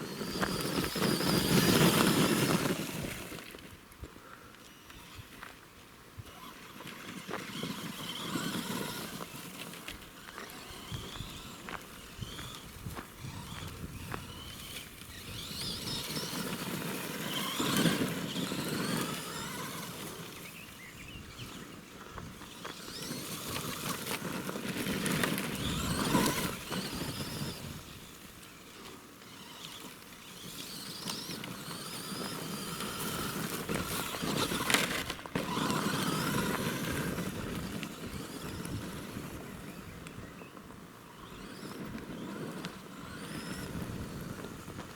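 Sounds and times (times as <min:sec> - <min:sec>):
electric motor whining: 0:00.0 - 0:44.9
tyres crunching on rough ground: 0:00.0 - 0:44.9.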